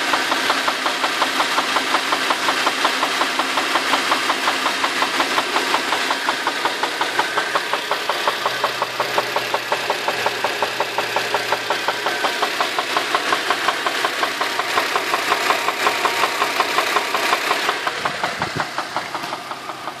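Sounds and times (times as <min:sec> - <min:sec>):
car engine idling: 0:00.0 - 0:20.0
rapid engine knock: 0:00.0 - 0:20.0.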